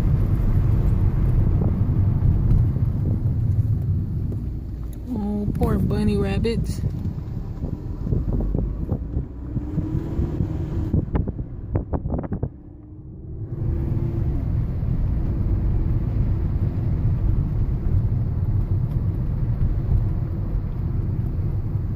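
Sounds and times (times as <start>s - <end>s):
road and wind rumble inside car: 0.0s - 21.9s.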